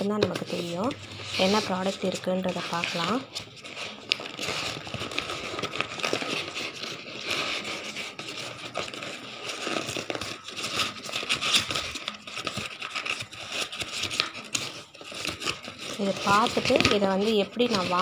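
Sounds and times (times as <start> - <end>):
paper crinkling and rustling: 0.0 - 18.0
scrapes and crackles: 0.0 - 18.0.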